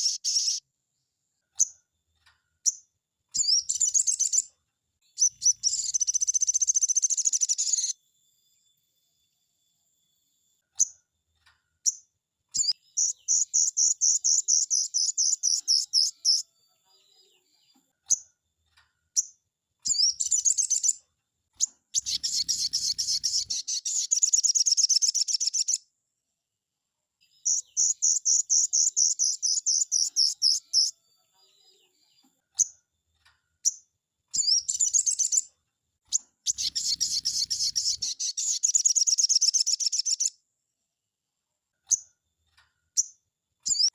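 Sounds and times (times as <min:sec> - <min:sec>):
bird song with chattering trills: 0:00.0 - 0:00.7, 0:01.5 - 0:08.1, 0:10.8 - 0:25.9, 0:27.3 - 0:35.5, 0:36.1 - 0:40.4, 0:42.9 - 0:43.9.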